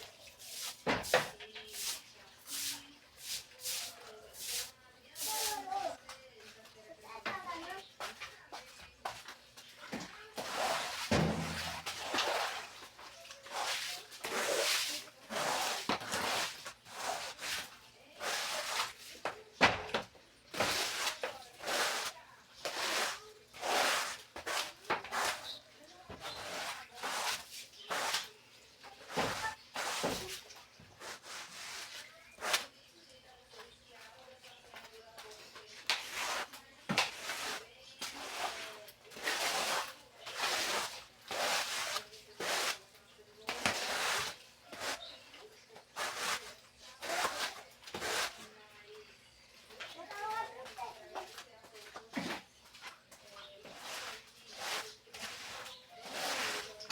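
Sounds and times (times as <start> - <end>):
scrubbing strokes: 0.0 - 6.0, 7.6 - 19.4, 20.5 - 32.8, 35.2 - 48.7, 50.0 - 56.9.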